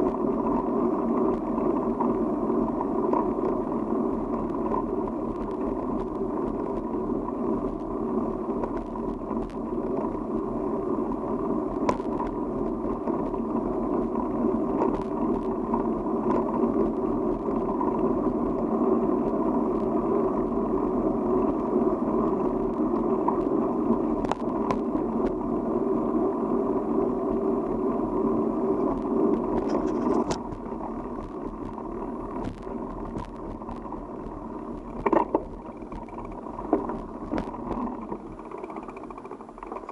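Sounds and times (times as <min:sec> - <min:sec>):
small clicks and rattles: 0:00.0 - 0:25.6, 0:28.7 - 0:39.9
tyres rolling on road: 0:00.0 - 0:39.9
wind on microphone: 0:00.0 - 0:39.9.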